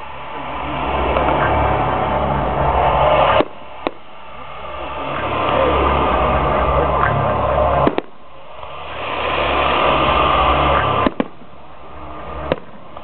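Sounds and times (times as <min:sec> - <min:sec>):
fireworks bursting: 0:00.0 - 0:13.0
noisy rumble: 0:00.0 - 0:13.0.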